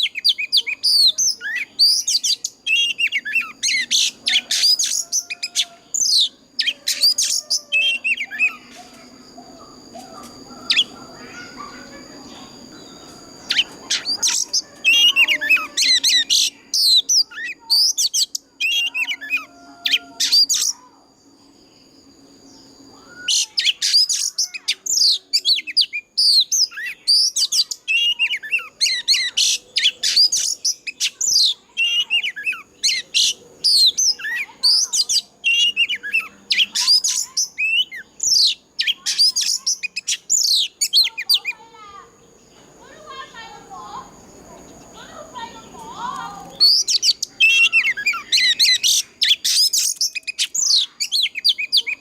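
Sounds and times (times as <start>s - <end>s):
bird singing whistled notes: 0.0s - 41.6s, 46.0s - 52.0s.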